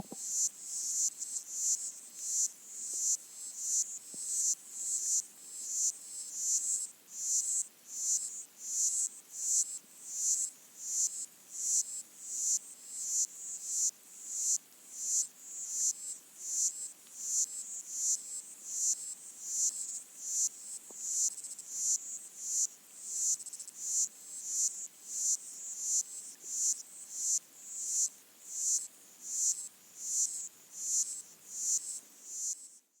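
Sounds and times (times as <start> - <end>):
water insects stridulating underwater: 0.0 - 32.8
faint hiss: 0.0 - 32.9.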